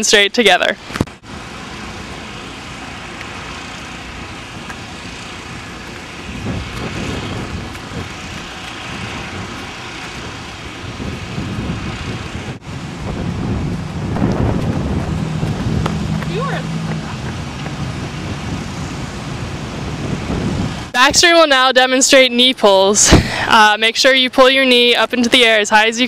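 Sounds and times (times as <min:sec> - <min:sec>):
wind rumbling on microphone: 0:00.8 - 0:21.7.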